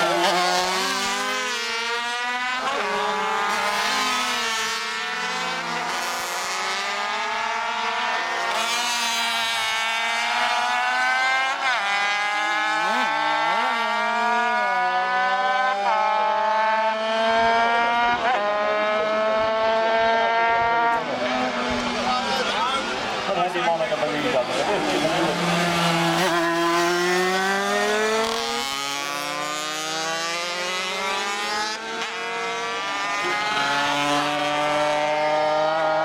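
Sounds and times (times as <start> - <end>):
racing motorcycles revving high: 0.0 - 36.0.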